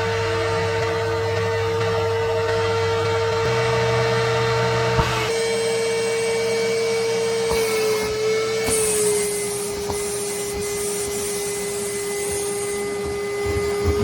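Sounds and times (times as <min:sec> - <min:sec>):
vacuum motor whining: 0:00.0 - 0:14.0.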